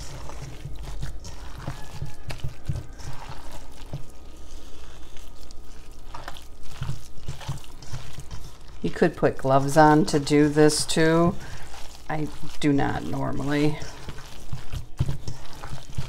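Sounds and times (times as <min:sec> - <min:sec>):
hands squelching wet meat mixture: 0:00.0 - 0:16.0.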